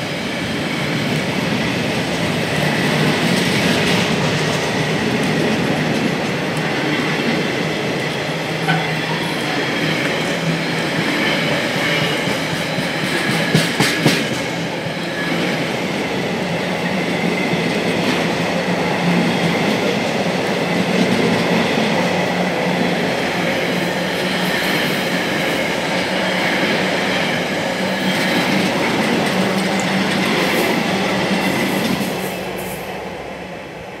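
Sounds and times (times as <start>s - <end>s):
freight train wheels rumbling: 0.0s - 34.0s.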